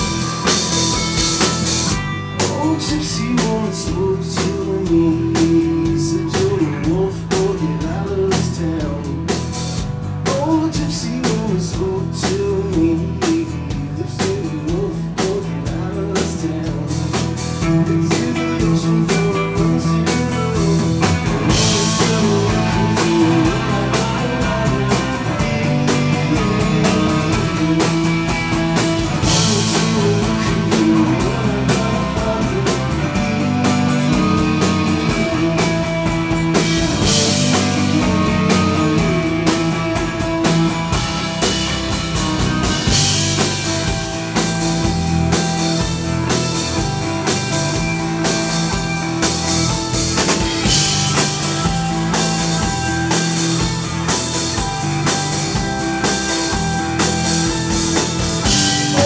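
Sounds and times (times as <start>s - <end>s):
drum kit: 0.0s - 59.0s.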